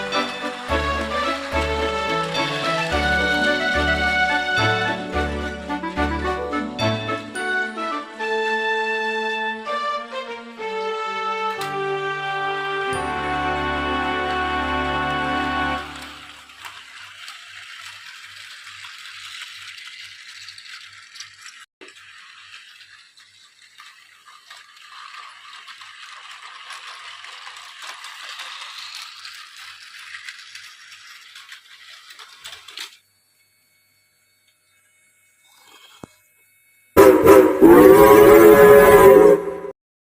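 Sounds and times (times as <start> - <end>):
toy train rattling whir: 0.0 - 10.8, 11.5 - 39.6.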